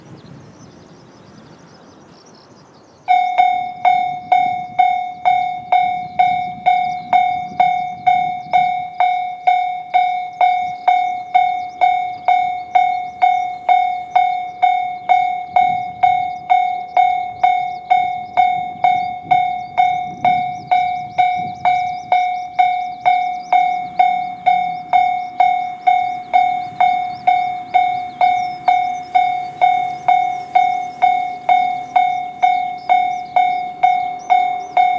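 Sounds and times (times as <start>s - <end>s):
level crossing warning bell: 3.1s - 34.9s.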